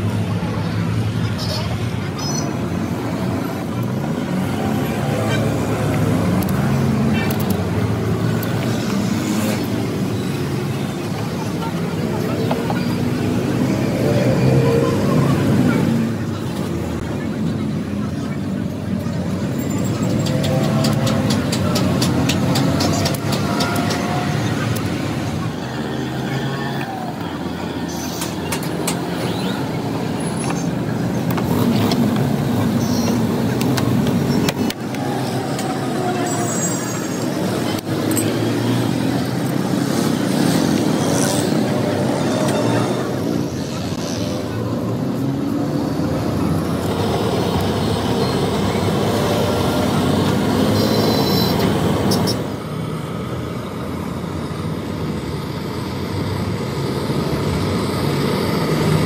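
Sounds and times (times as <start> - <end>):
voices: 0.0 - 52.6
road traffic noise: 0.0 - 59.0.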